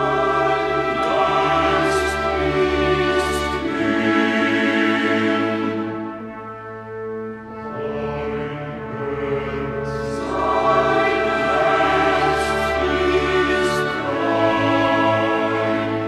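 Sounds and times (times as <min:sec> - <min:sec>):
orchestral chords with choir: 0:00.0 - 0:16.0.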